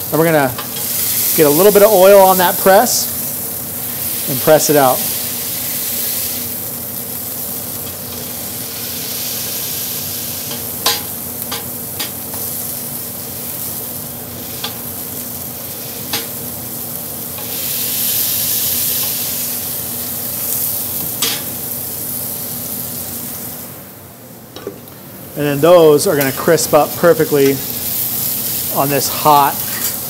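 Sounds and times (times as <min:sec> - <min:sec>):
meat sizzling on a griddle: 0:00.0 - 0:24.0, 0:25.5 - 0:30.0.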